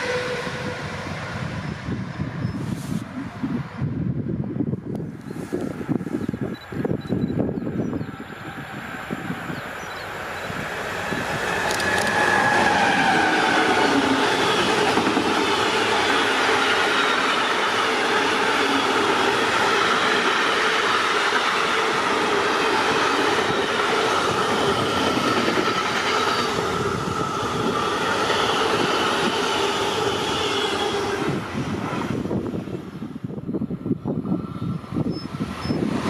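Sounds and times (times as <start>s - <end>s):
train wheels rolling on rail: 0.0s - 36.0s.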